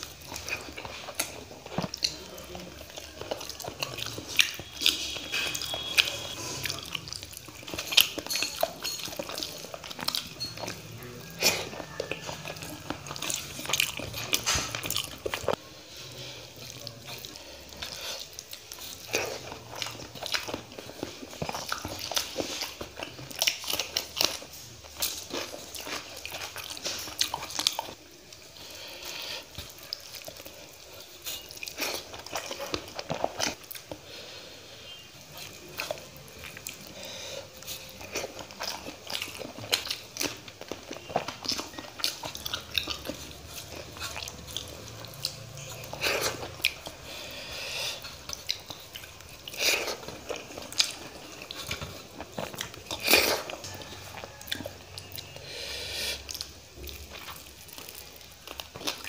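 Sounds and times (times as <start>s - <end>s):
man chewing with wet smacks: 0.0s - 59.0s.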